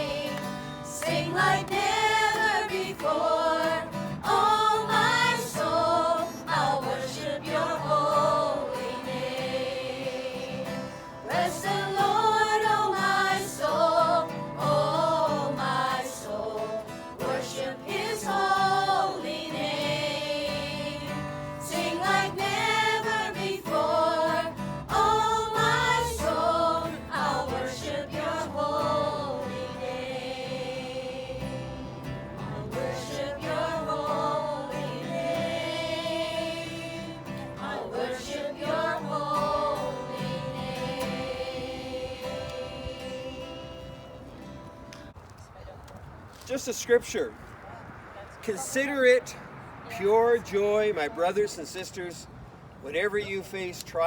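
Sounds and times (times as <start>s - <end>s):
group singing a hymn: 0.0s - 44.8s
acoustic guitar: 0.0s - 45.2s.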